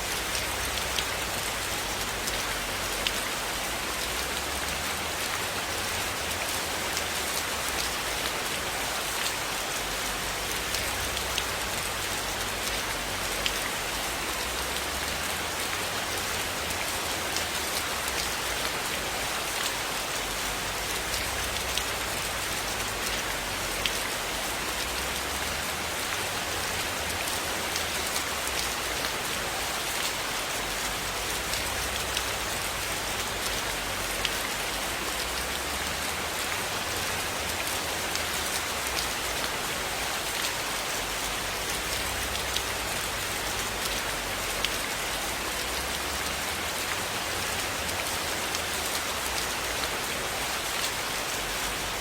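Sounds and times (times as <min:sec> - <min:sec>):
rain ticks: 0:00.0 - 0:52.0
steady rain hiss: 0:00.0 - 0:52.0.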